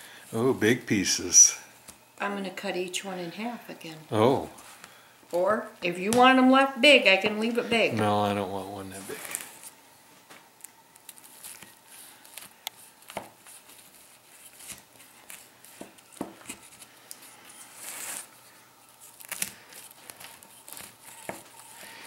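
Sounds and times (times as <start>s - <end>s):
pie crust crackling: 0.1s - 22.0s.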